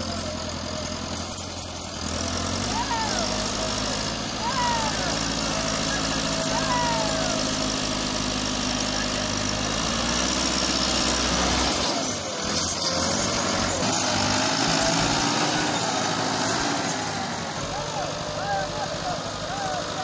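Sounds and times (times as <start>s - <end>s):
tractor diesel engine labouring: 0.0s - 20.0s.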